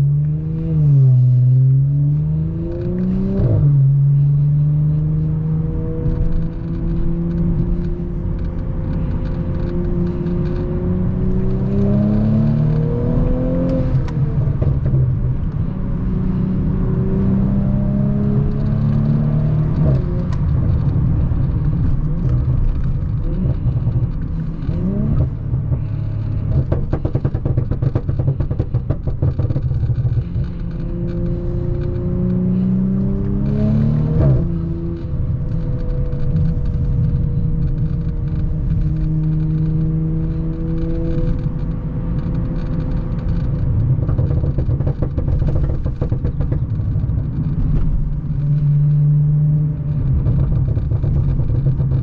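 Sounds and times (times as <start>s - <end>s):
car engine accelerating: 0.0s - 52.0s
exhaust pops and crackles: 2.4s - 4.6s, 5.7s - 52.0s.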